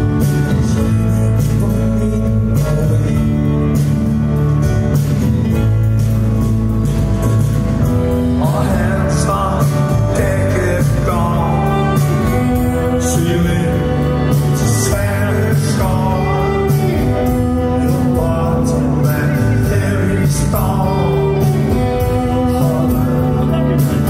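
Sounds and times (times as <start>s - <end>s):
man singing: 0.0s - 4.3s, 8.2s - 24.0s
lead guitar with bending notes: 0.0s - 24.0s
live rock band: 0.0s - 24.0s.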